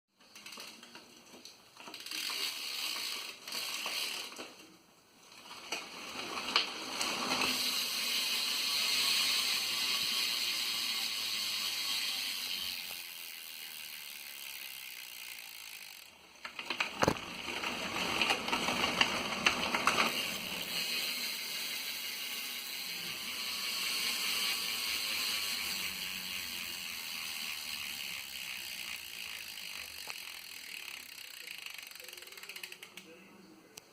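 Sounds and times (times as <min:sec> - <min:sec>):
bicycle hub ratcheting: 0:00.2 - 0:04.7, 0:05.3 - 0:33.2.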